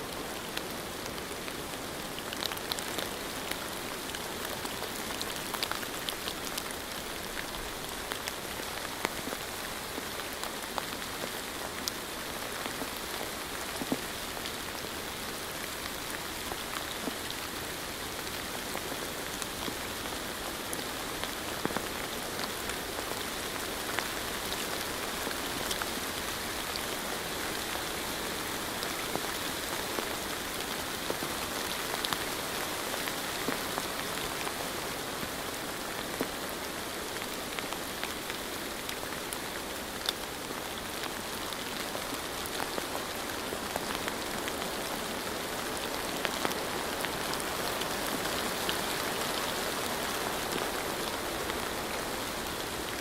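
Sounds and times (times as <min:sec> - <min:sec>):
raindrops ticking on a surface: 0:00.1 - 0:53.0.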